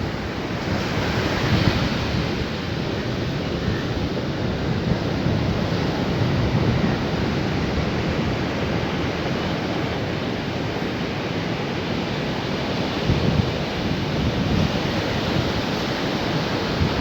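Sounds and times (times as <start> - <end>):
sea waves breaking on beach: 0.0 - 17.0
wind rumbling on microphone: 0.0 - 17.0.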